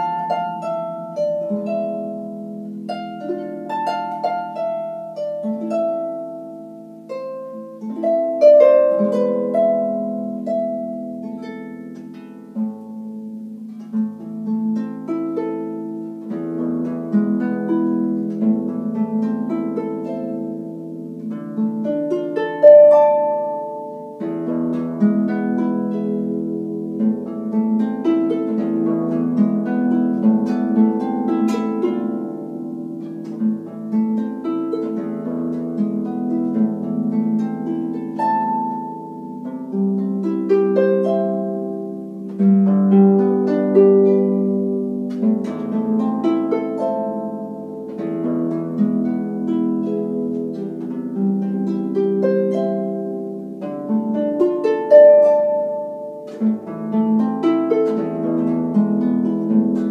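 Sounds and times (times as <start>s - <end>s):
harp playing slow piece: 0.0s - 59.9s.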